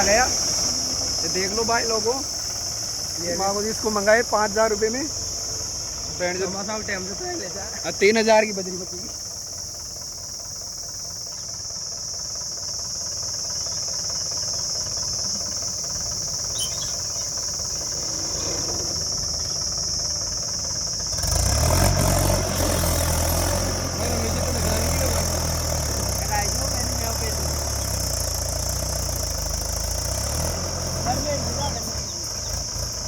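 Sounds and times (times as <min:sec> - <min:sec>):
heavy diesel engine revving: 0:00.0 - 0:33.0.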